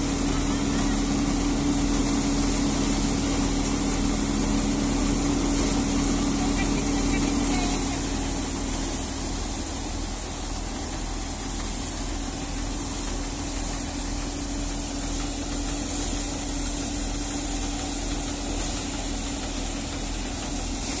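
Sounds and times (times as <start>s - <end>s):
thresher and tractor droning: 0.0s - 21.0s.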